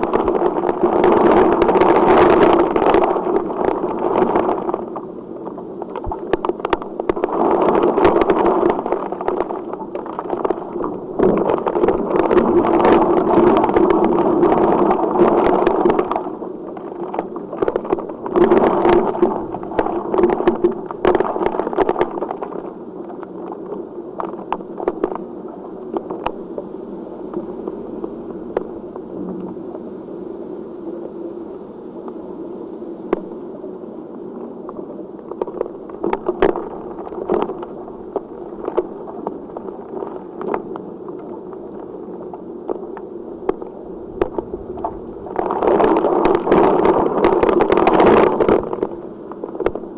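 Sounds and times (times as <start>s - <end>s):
raindrops tapping surfaces: 0.0s - 29.5s, 34.7s - 49.9s
heavy rain hissing: 0.0s - 49.9s.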